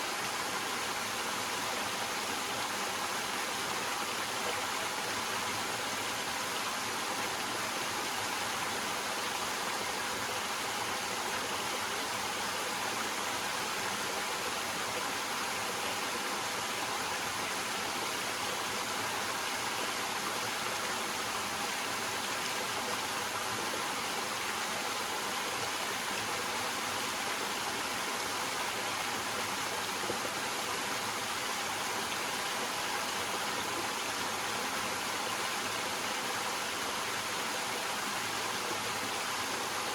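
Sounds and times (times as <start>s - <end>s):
small waterfall splashing over rocks: 0.0s - 39.9s.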